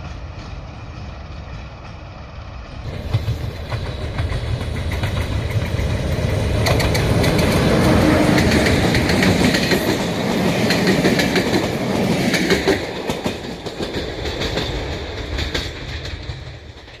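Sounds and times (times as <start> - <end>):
train wheels clattering on rails: 0.0 - 17.0.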